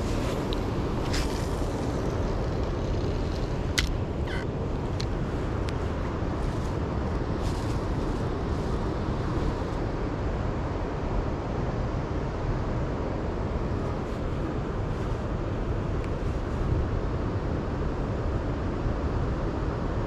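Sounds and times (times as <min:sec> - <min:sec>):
low rumbling background noise: 0:00.0 - 0:20.0.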